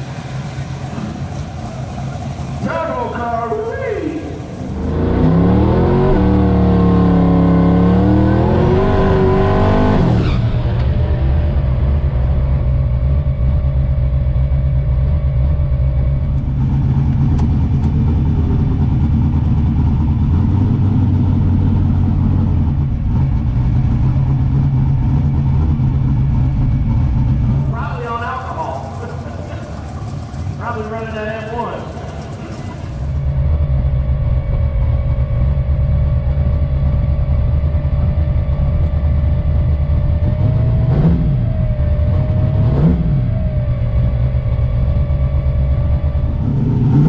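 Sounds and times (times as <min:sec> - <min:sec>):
car engine revving and idling: 0:00.0 - 0:47.0.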